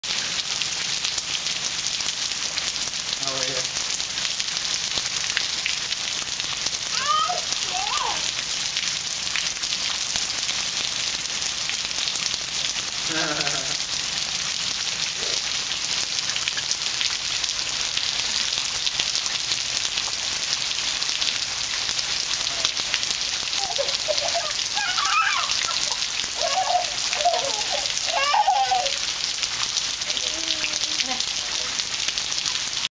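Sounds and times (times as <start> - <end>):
heavy rain on concrete: 0.0 - 32.9.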